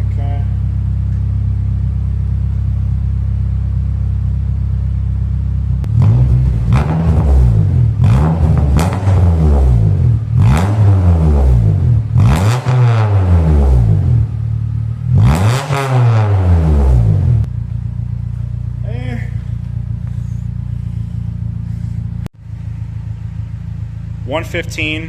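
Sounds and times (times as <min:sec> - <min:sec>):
car exhaust idling and revving: 0:00.0 - 0:25.0.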